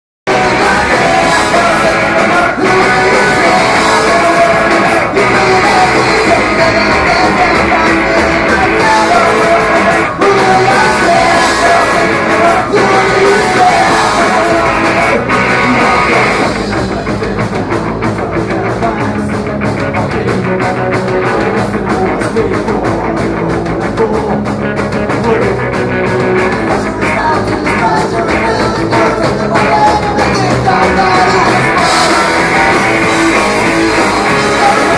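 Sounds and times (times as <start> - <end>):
punk rock band playing live: 0.3 - 34.9.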